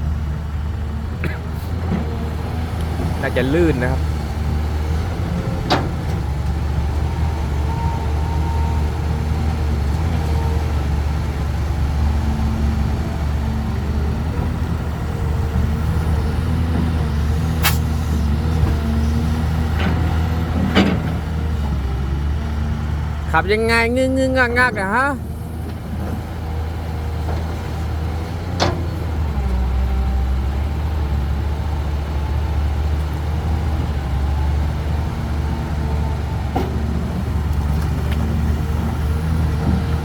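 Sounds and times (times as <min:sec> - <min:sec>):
diesel engine droning: 0:00.0 - 0:40.0.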